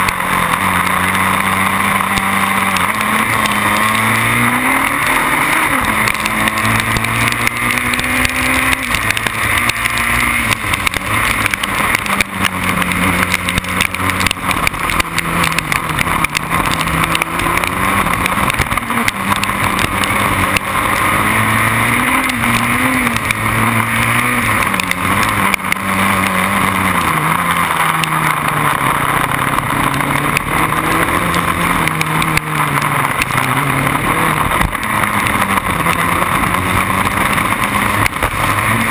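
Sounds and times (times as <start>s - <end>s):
racing car engine revving: 0.0s - 38.9s
steady rushing noise: 0.0s - 38.9s.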